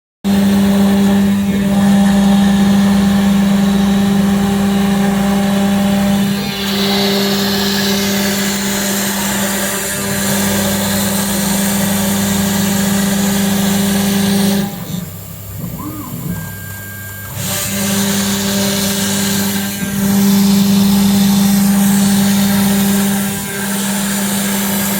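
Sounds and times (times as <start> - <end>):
router spindle high hum: 0.3 - 24.9.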